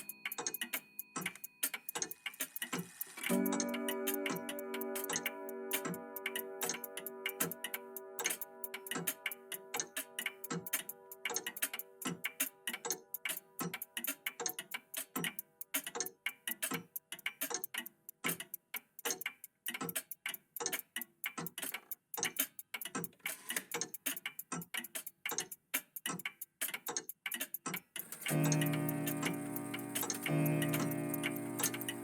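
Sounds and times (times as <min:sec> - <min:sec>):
mechanical clocks ticking: 0:00.0 - 0:32.0.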